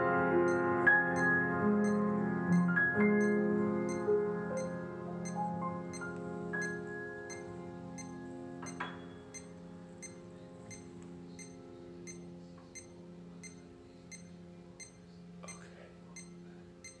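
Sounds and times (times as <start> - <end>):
piano chord ringing: 0.0 - 17.0
faint electronic ticks: 0.4 - 17.0.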